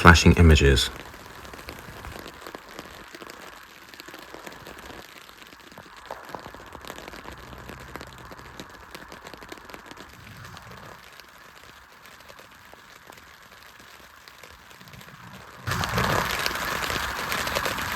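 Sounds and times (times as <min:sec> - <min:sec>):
rain falling: 0:00.0 - 0:17.9.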